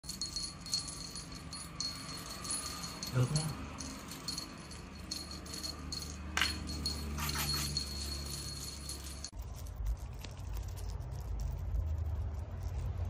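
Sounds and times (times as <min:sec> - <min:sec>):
small bell jingling: 0:00.0 - 0:11.5
low steady rumble: 0:00.0 - 0:13.0.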